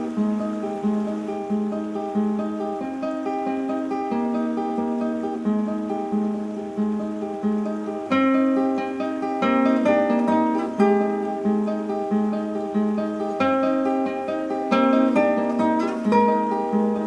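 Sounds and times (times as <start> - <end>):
acoustic guitar plucked notes: 0.0 - 17.0.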